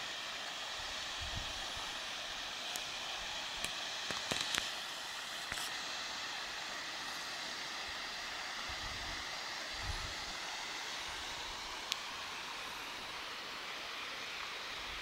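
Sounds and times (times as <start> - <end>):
rain and waterfall rushing: 0.0 - 15.0.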